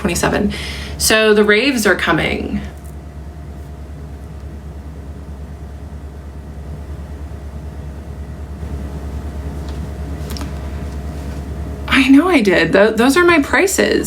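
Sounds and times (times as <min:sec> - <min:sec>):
low rumble with fast flutter: 0:00.0 - 0:14.0.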